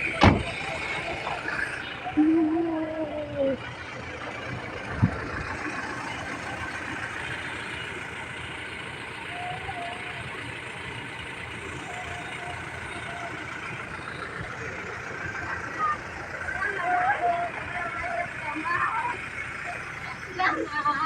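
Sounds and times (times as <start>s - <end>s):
faint distant voices: 0.0s - 21.0s
outdoor background noise: 0.0s - 21.0s.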